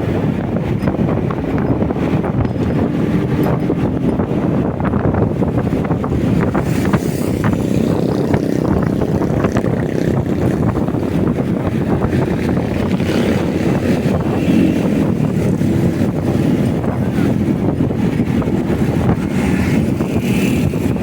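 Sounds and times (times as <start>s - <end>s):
motorcycle engine and road noise: 0.0s - 21.0s
wind buffeting microphone: 0.0s - 21.0s.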